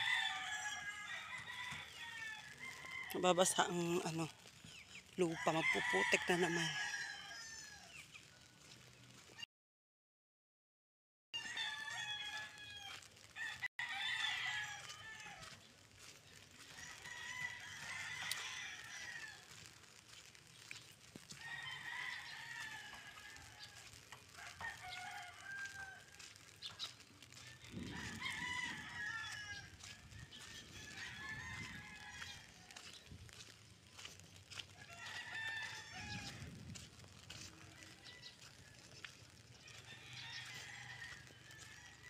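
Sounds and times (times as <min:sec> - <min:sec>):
faint rooster crowing: 0:00.0 - 0:03.6, 0:05.1 - 0:08.8, 0:11.4 - 0:20.4, 0:21.2 - 0:42.0.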